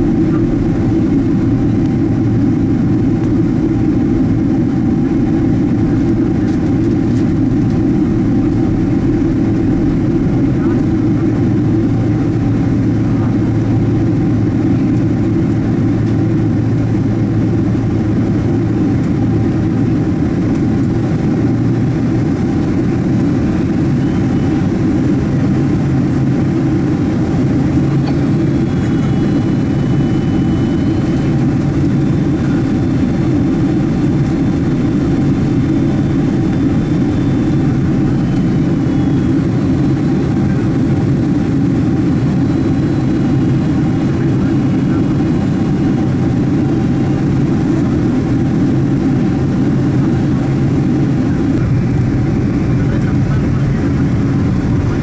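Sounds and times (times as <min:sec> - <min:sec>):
aircraft cabin engine drone: 0:00.0 - 0:55.0.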